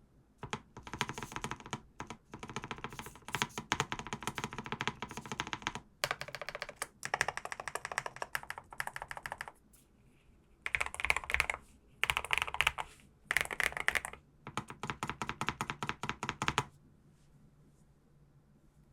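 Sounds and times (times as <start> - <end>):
fast typing on mechanical keyboard: 0.4 - 9.6, 10.7 - 16.7.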